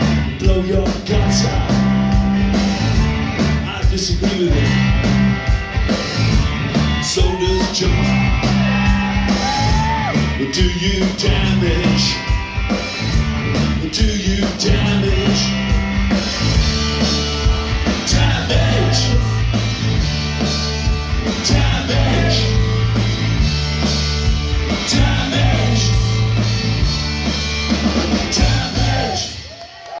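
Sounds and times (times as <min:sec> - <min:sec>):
rock band playing live: 0:00.0 - 0:29.7.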